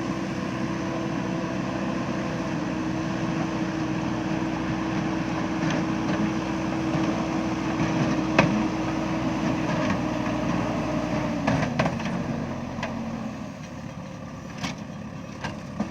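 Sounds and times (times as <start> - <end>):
diesel engine running: 0.0 - 15.9.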